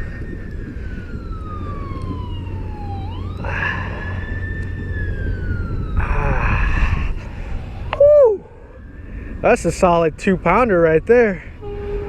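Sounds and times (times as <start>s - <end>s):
emergency vehicle siren wailing: 0.0s - 12.0s
steady low rumble: 0.0s - 12.0s.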